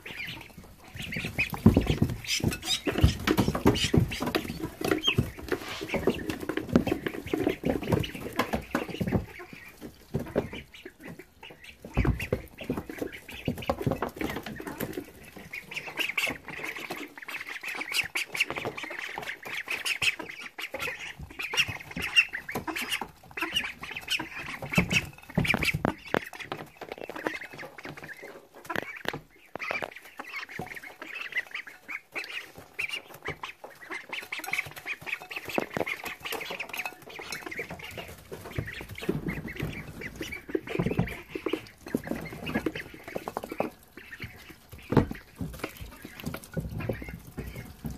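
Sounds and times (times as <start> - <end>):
ducklings peeping: 0.0 - 47.9.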